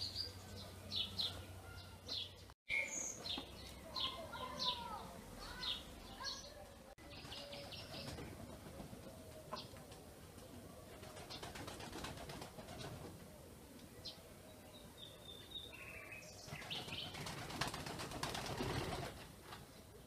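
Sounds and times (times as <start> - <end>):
birds chirping: 0.0 - 11.8, 12.8 - 19.0.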